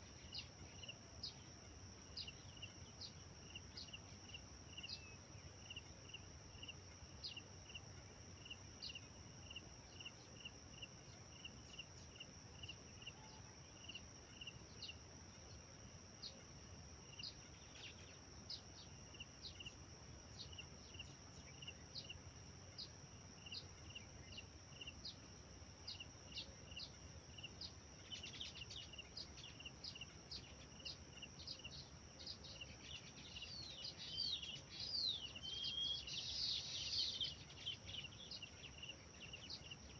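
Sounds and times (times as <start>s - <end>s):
bird chirping: 0.0s - 39.9s
birdsong: 0.0s - 39.9s
high insect drone: 0.0s - 39.9s.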